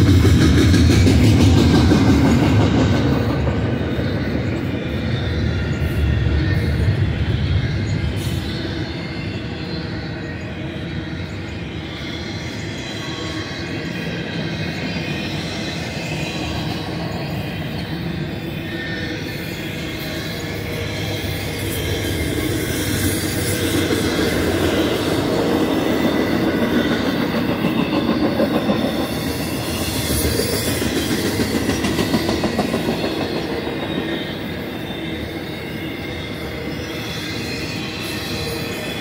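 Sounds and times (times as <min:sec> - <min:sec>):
steel wheels rumbling on rail: 0:00.0 - 0:39.0.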